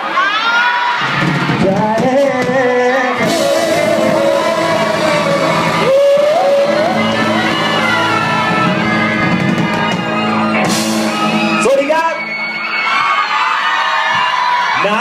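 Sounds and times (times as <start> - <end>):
live band playing pop ballad: 1.1 - 13.3.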